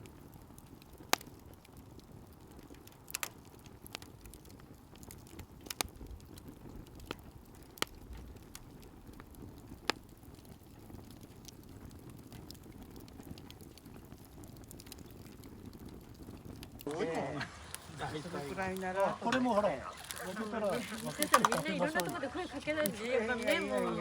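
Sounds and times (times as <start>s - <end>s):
bonfire crackling and popping: 0.0s - 24.0s.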